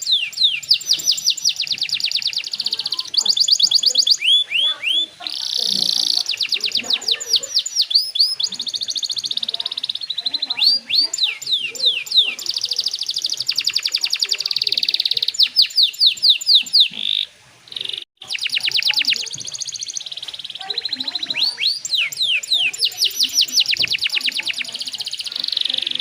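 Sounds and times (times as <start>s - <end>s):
canary singing: 0.0s - 26.0s.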